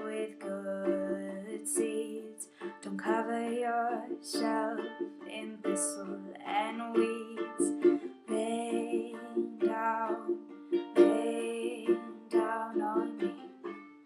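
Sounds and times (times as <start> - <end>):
person singing: 0.0 - 14.0
strummed acoustic string instrument: 0.0 - 14.0.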